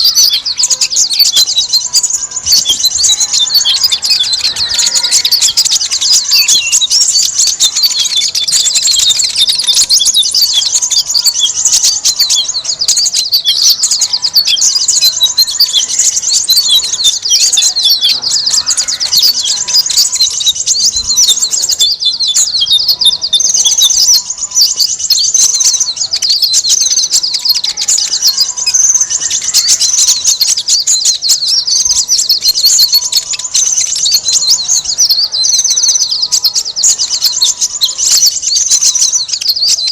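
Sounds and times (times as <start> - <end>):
chorus of small songbirds: 0.0 - 39.9.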